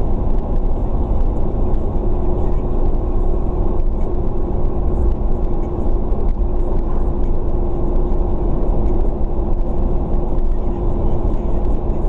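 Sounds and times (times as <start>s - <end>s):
car engine and tyre rumble: 0.0s - 12.0s
steady droning tone: 0.0s - 12.0s.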